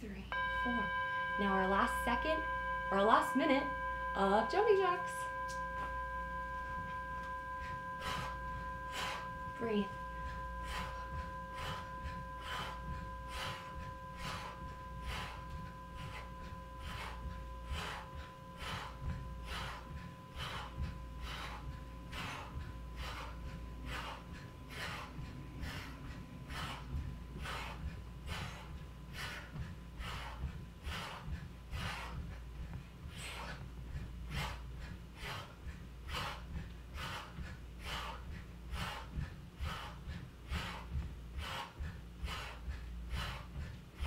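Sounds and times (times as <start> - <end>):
woman breathing hard: 5.2 - 44.0.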